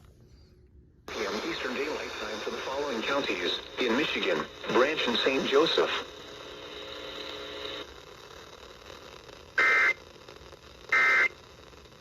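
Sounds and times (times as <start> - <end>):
faint radio hiss and hum: 0.0 - 12.0.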